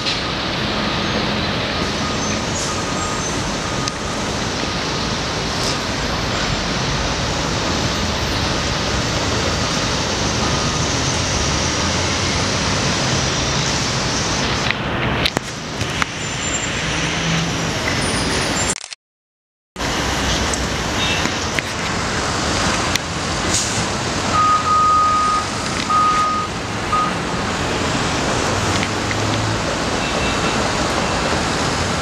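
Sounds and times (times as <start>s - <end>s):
street traffic: 0.0s - 19.0s, 19.8s - 32.0s.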